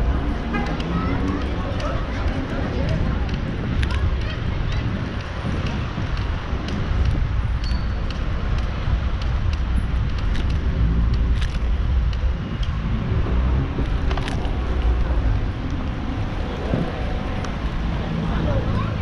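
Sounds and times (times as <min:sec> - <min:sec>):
car traffic: 0:00.0 - 0:19.0
low rumble of bicycle riding: 0:00.0 - 0:19.0.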